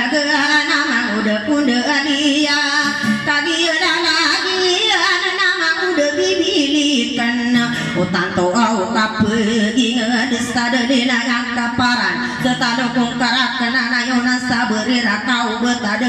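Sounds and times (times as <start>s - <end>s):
acoustic guitar: 0.0s - 16.0s
woman singing: 0.0s - 16.0s.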